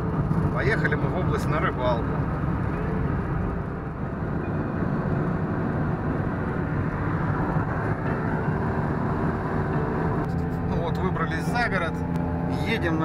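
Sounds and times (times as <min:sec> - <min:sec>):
car engine: 0:00.0 - 0:13.0
road noise: 0:00.0 - 0:13.0.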